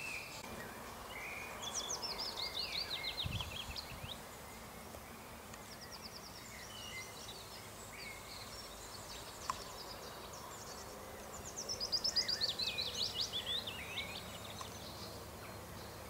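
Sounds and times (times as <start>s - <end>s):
outdoor background noise: 0.0s - 16.0s
songbirds chirping and singing: 0.0s - 16.0s.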